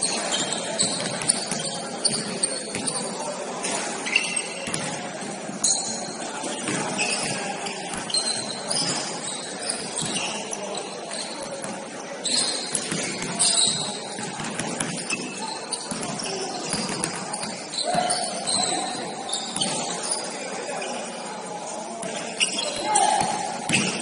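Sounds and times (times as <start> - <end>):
sneakers squeaking: 0.0 - 24.0
voices echoing in a hall: 0.0 - 24.0.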